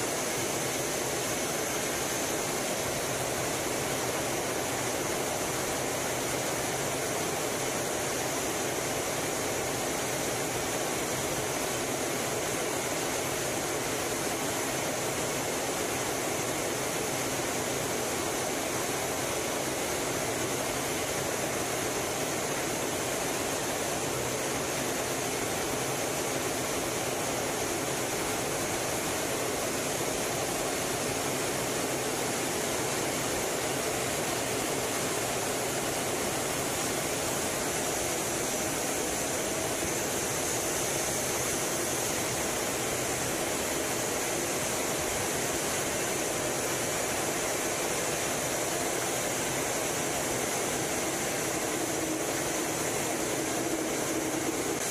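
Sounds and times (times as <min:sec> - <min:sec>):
airflow and jet noise in cockpit: 0:00.0 - 0:54.9.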